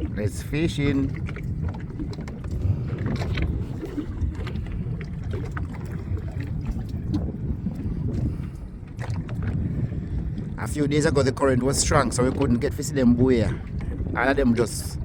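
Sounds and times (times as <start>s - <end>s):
boat engine rumble: 0.0s - 15.0s
wind on microphone: 0.0s - 15.0s.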